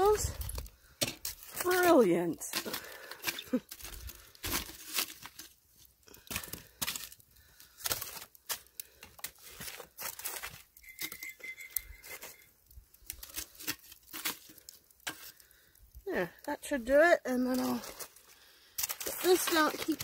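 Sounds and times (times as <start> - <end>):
tongs crunching and scraping coals: 0.0 - 20.0.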